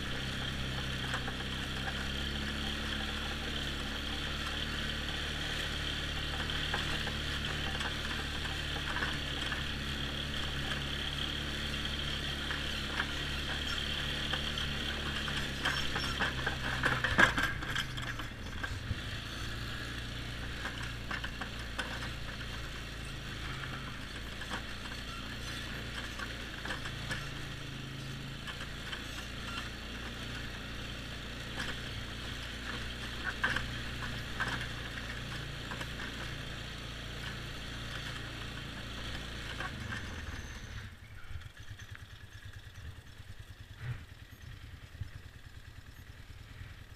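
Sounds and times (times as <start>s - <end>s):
atv engine running: 0.0s - 46.9s
sharp knocks and rattles: 0.2s - 40.5s.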